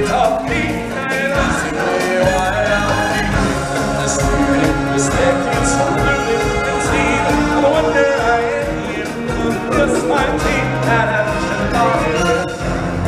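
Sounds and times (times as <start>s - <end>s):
stage music with singing and percussion: 0.0s - 13.0s.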